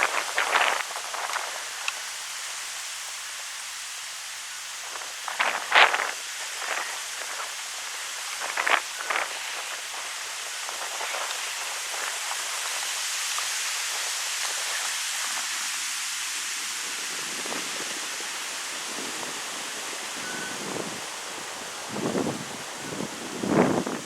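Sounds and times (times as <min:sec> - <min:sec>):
wind rustling tree leaves: 0:00.0 - 0:24.0.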